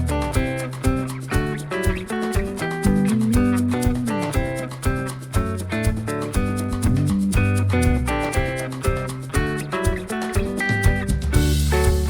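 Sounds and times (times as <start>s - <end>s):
plucked guitar with bass and beat: 0.0s - 12.0s.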